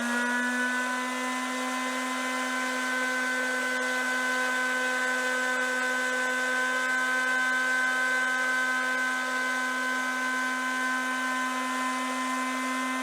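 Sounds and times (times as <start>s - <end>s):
electric sander whining: 0.0s - 13.0s.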